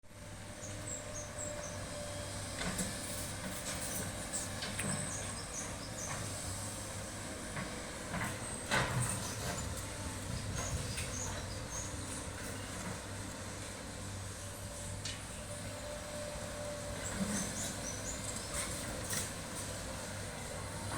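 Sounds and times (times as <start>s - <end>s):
excavator diesel engine humming: 0.1s - 20.9s.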